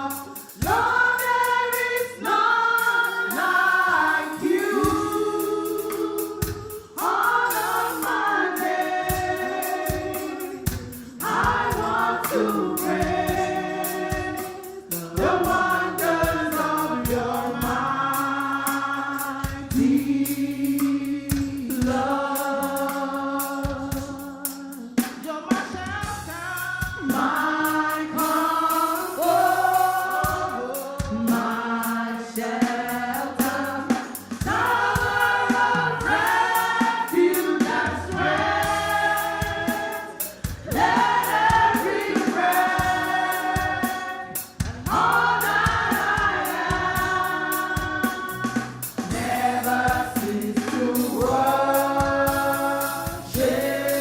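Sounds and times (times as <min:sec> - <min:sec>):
band with steady drum beat: 0:00.0 - 0:54.0
choir singing gospel song: 0:00.0 - 0:54.0.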